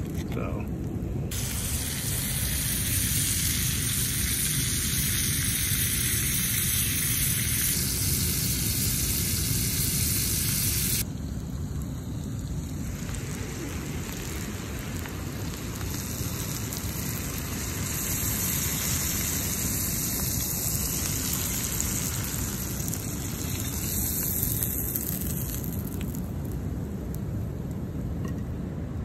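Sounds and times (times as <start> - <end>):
butter sauce sizzling in skillet: 1.3 - 26.7.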